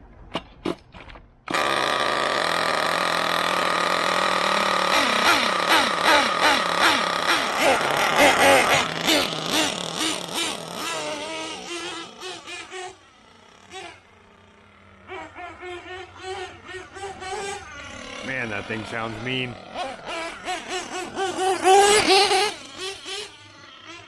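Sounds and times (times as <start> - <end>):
small nitro engine revving: 1.5 - 24.0.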